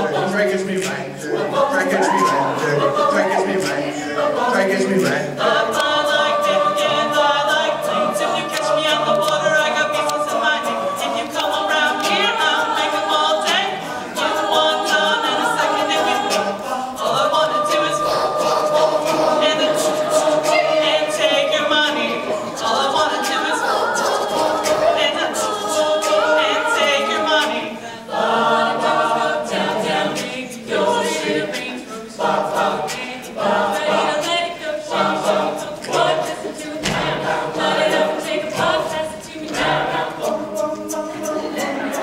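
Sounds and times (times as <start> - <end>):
a cappella group singing: 0.0 - 42.0.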